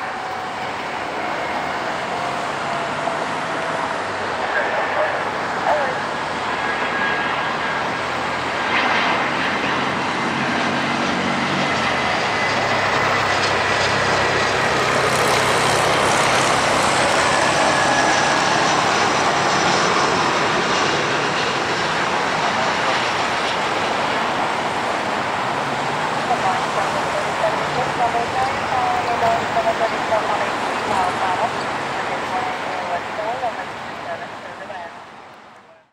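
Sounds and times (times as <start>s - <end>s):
jet engines roaring and whining: 0.0s - 35.9s.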